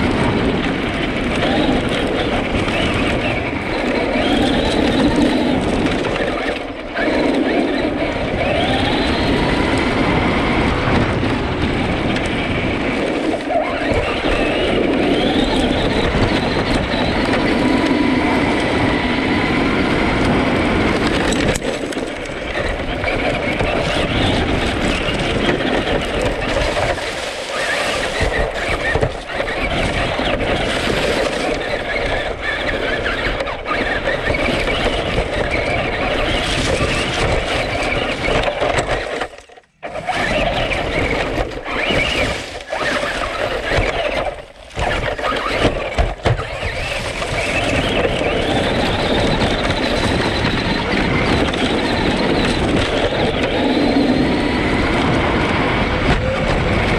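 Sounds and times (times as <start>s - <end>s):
electric motor whining: 0.0s - 56.9s
tyres rattling on dirt: 0.0s - 56.9s.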